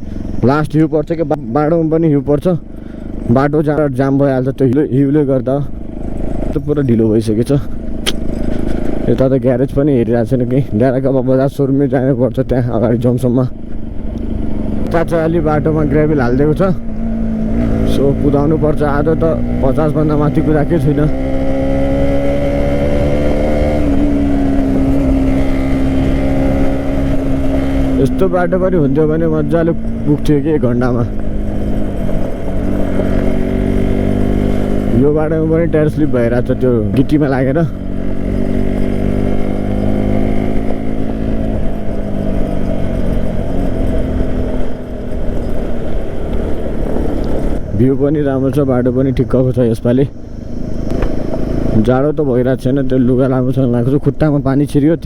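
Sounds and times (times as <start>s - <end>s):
low rumble of wind and road: 0.0s - 55.0s
motorcycle engine cruising: 0.0s - 55.0s.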